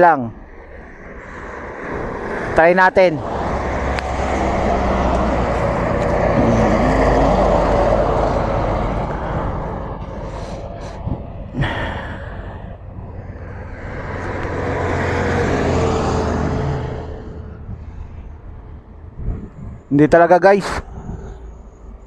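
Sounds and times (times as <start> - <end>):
vehicle passing: 0.3 - 19.9
heavy truck passing: 0.5 - 19.8.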